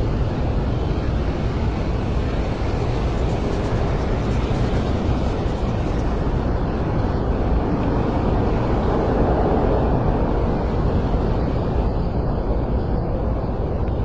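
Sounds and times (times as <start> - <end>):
low ambient rumble: 0.0 - 14.0.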